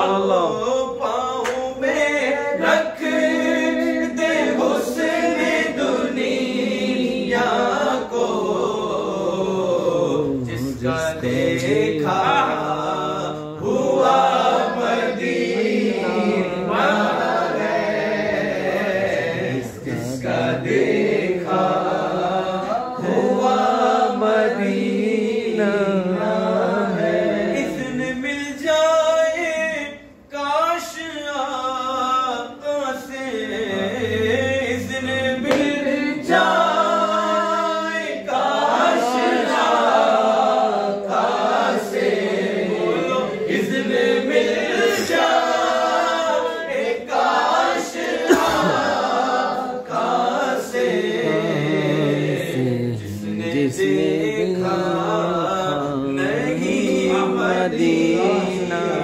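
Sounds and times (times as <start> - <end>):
men singing unaccompanied: 0.0 - 59.0.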